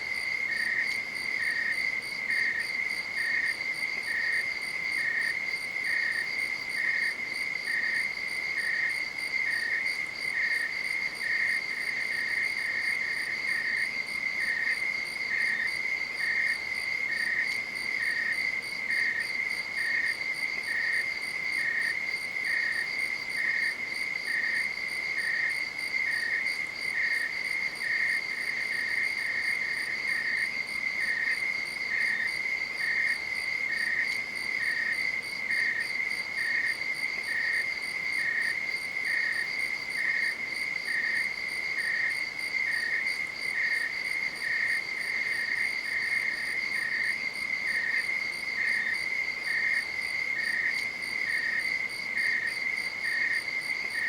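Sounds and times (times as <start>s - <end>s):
insect chirping: 0.0s - 54.0s.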